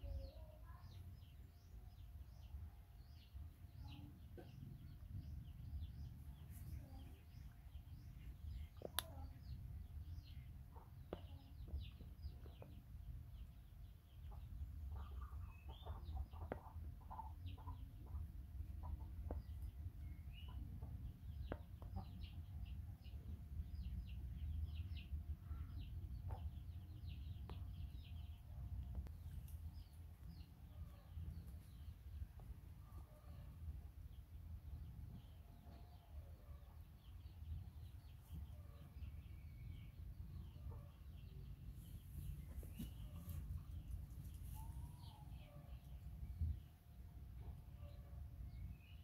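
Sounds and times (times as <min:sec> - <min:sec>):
faint bird calls and chirps: 0:00.0 - 0:49.0.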